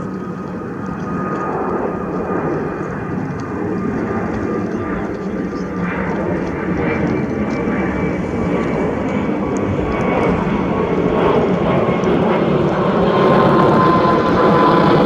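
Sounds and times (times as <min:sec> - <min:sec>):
jet engines rushing with whine: 0:00.0 - 0:15.0.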